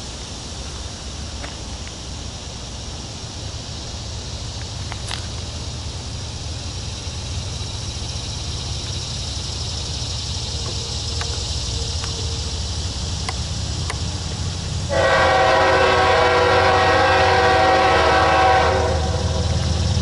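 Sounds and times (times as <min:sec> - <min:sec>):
distant diesel locomotive rumble: 0:00.0 - 0:20.0
insects hissing: 0:00.0 - 0:20.0.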